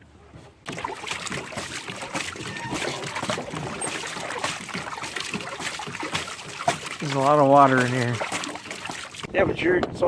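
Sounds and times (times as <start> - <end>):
water splashing and trickling: 0.6 - 9.6.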